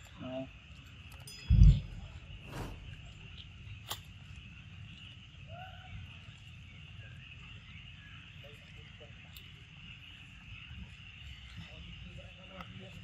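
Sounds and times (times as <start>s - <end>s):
faint chirp: 0.0s - 13.0s
insects chorus: 0.0s - 13.0s.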